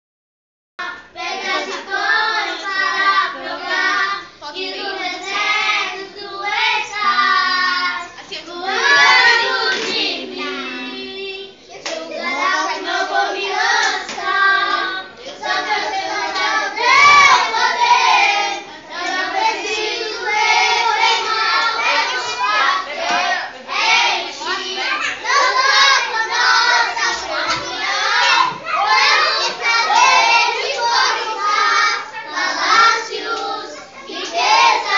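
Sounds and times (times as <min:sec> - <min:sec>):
children singing: 0:00.8 - 0:34.9.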